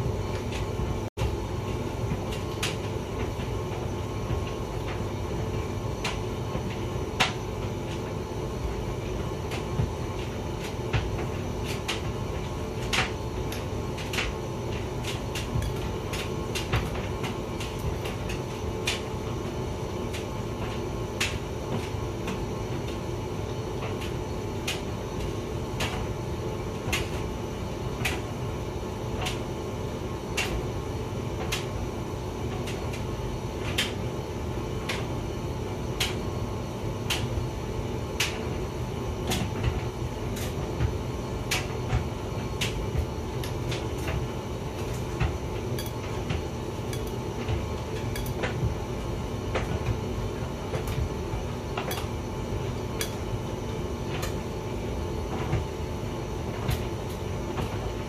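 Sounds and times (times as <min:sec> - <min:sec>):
tumble dryer rumbling: 0:00.0 - 0:58.0.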